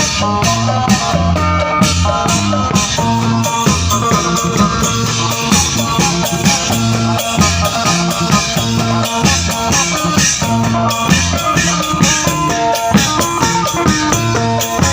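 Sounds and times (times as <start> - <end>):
bass line: 0.0 - 14.9
drum-kit beat: 0.0 - 14.9
guitar: 0.0 - 14.9
upbeat band music: 0.0 - 14.9.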